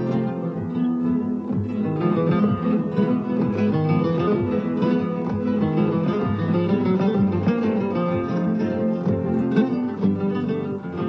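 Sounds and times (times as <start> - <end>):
flamenco guitars playing: 0.0 - 11.0.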